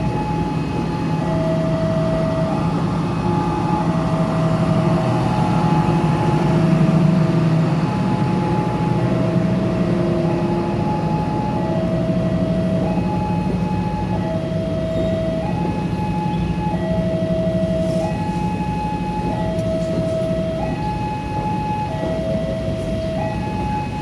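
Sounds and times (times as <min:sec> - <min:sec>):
two-tone level crossing alarm: 0:00.0 - 0:06.9, 0:07.8 - 0:24.0
diesel engine hum: 0:00.0 - 0:24.0.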